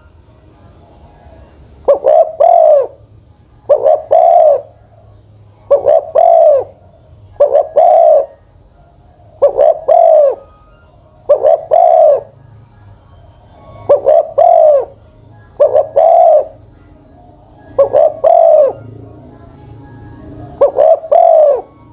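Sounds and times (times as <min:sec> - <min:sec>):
dove cooing: 0:01.8 - 0:08.5, 0:09.2 - 0:12.4, 0:13.2 - 0:21.9.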